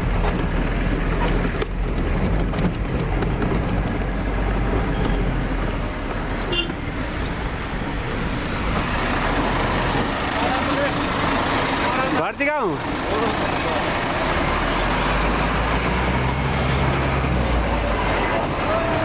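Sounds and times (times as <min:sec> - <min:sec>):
road noise: 0:00.0 - 0:19.0
truck engine running: 0:00.0 - 0:19.0.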